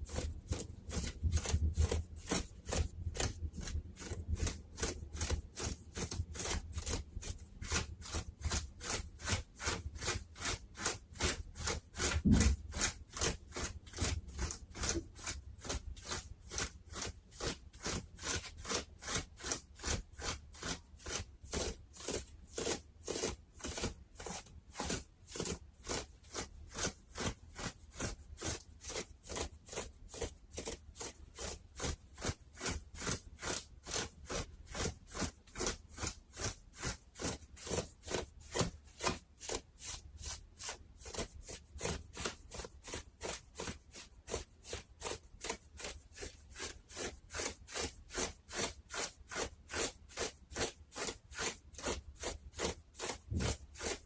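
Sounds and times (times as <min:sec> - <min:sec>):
fabric being scratched: 0:00.0 - 0:54.0.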